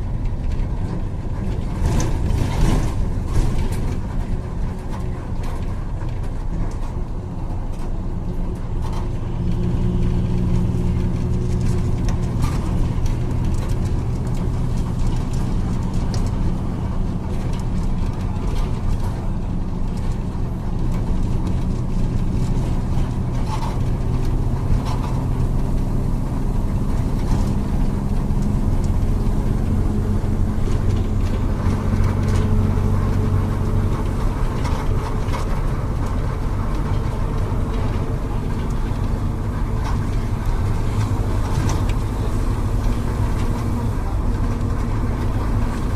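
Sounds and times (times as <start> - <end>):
bus diesel engine running: 0.0 - 45.9.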